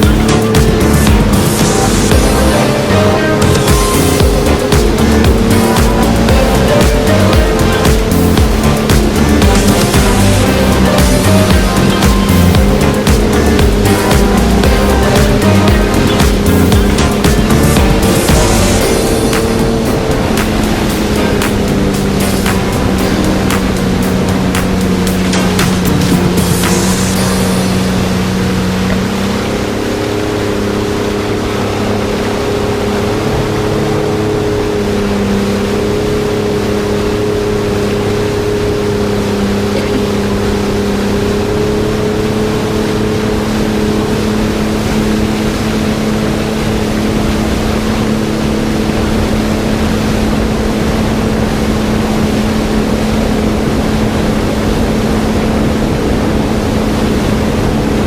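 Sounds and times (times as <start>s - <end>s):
jet ski engine running: 0.0s - 58.0s
rushing water: 0.0s - 58.0s.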